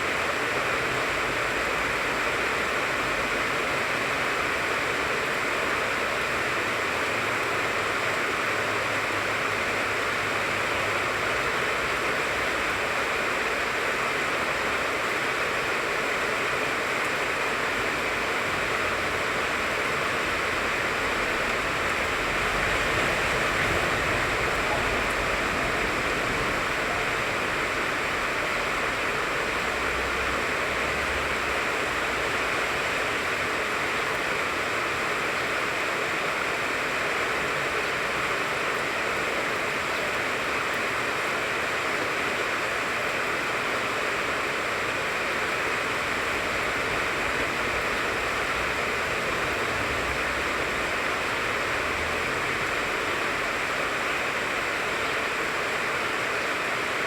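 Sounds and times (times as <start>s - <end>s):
rain falling on a tree: 0.0s - 57.0s.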